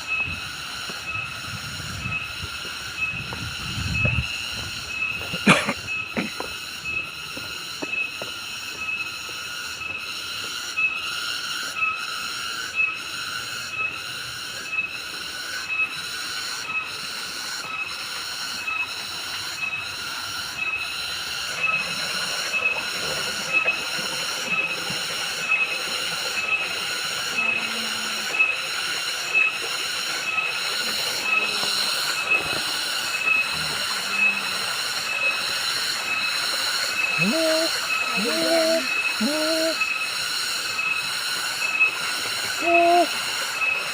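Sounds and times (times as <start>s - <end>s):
cicadas chorus: 0.0s - 43.9s.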